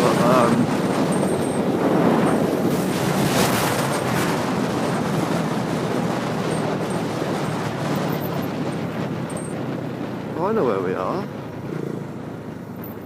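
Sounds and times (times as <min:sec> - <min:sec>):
motorcycle engine: 0:00.0 - 0:13.0
road noise: 0:00.0 - 0:13.0
wind gust: 0:00.0 - 0:13.0.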